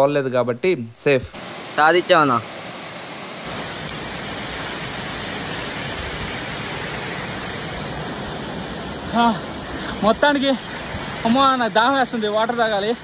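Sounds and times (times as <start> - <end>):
waterfall rushing: 1.3 - 12.0.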